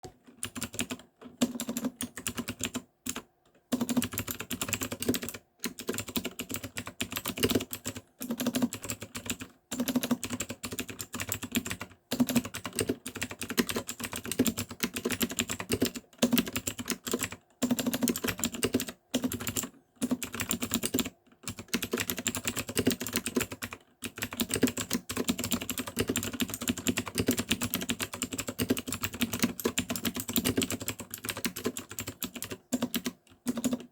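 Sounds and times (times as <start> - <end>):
mechanical keyboard clicks: 0.4 - 33.9.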